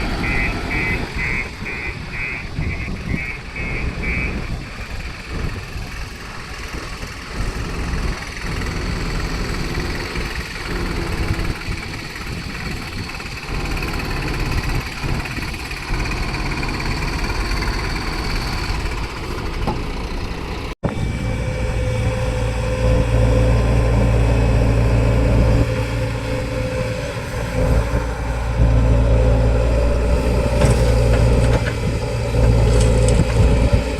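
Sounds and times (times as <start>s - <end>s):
heavy diesel engines running: 0.0s - 33.9s.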